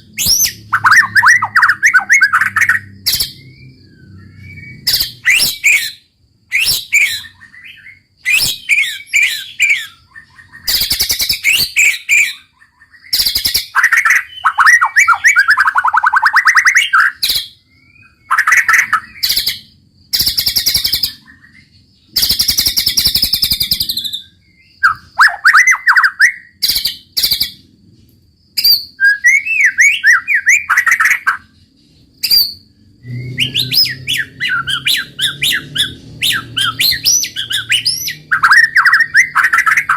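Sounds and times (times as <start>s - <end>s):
bird singing varied phrases: 0.0s - 27.7s, 28.5s - 39.9s.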